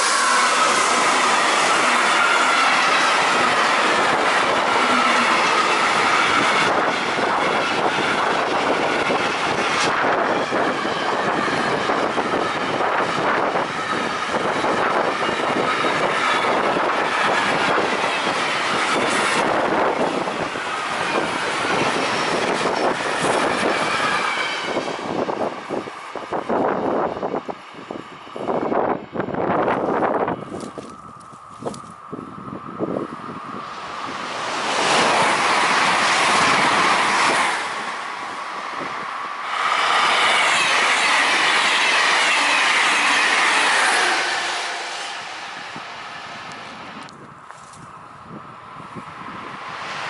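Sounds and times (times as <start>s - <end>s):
train wheels rumbling: 0.0s - 50.0s.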